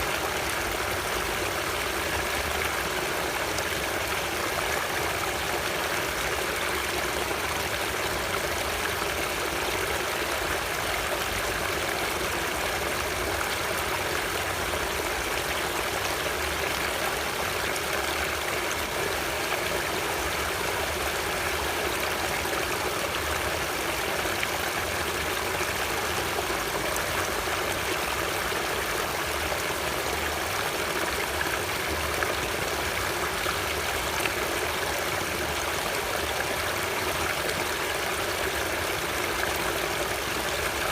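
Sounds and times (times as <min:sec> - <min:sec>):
stream water rushing and burbling: 0:00.0 - 0:40.9.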